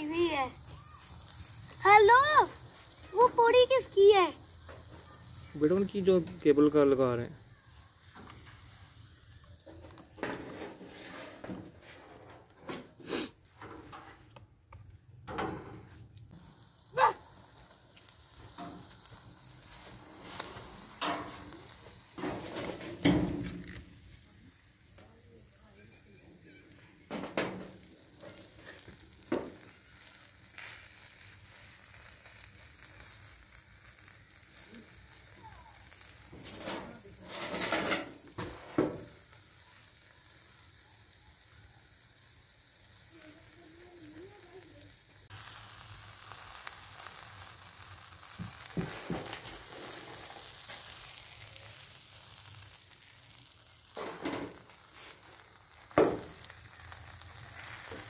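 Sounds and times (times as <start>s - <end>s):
fish sizzling on grill: 0.0s - 58.0s.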